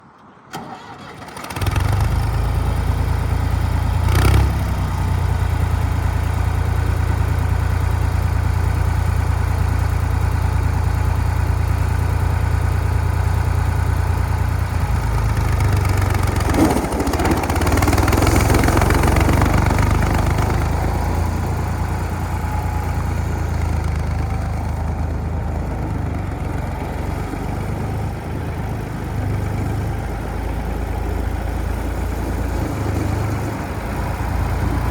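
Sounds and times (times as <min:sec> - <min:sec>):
tractor engine starting and idling: 0:00.0 - 0:34.9.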